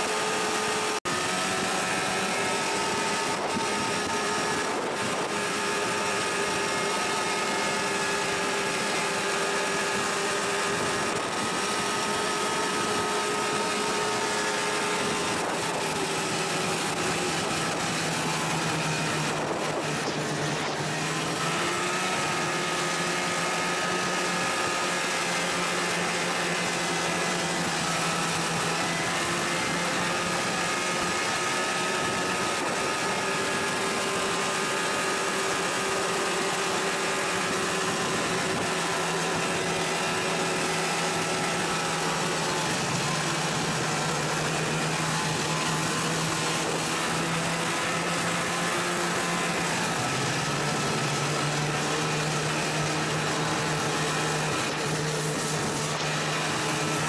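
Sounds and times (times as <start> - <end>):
snowmobile engine cruising: 0.0 - 57.0
wind noise: 1.1 - 57.0.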